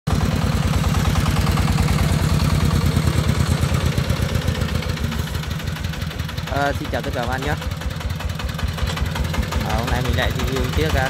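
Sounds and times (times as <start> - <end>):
small truck engine pulsing: 0.1 - 11.0.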